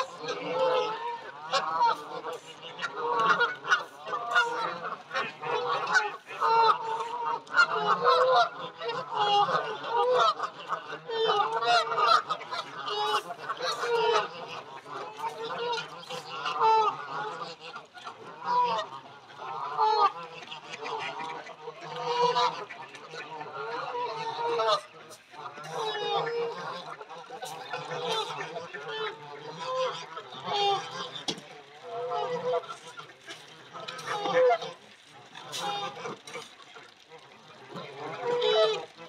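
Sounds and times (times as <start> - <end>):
geese honking: 0.0 - 39.0.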